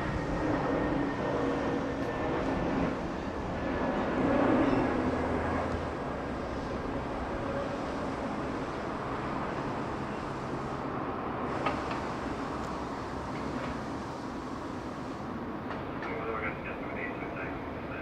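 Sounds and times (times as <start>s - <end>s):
jet engines rumbling with faint whine: 0.0s - 18.0s.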